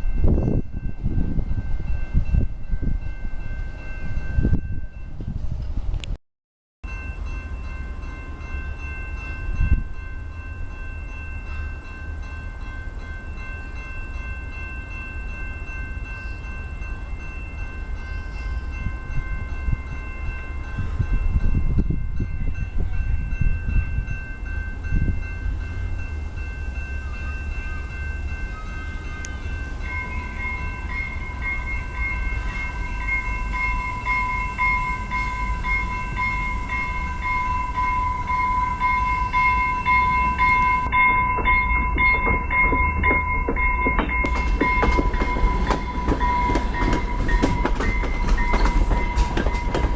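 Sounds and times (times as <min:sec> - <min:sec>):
train locomotive rumble: 0:00.0 - 0:06.2, 0:06.8 - 0:49.9.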